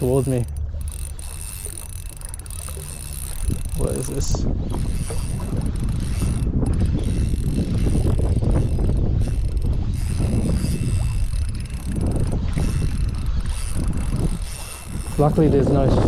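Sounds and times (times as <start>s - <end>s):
fishing reel gears clicking: 0.0s - 16.0s
wind rumble on microphone: 0.0s - 16.0s.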